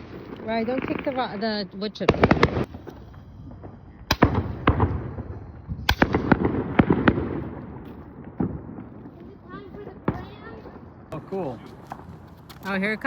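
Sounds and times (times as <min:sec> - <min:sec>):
fireworks bangs and pops: 0:00.0 - 0:10.8.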